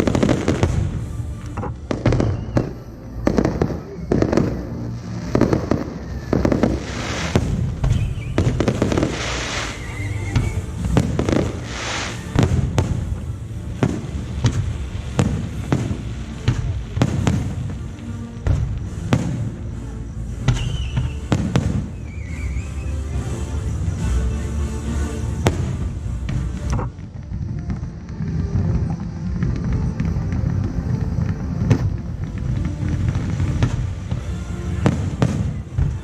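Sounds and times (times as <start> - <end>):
fireworks bursting: 0.0 - 36.0.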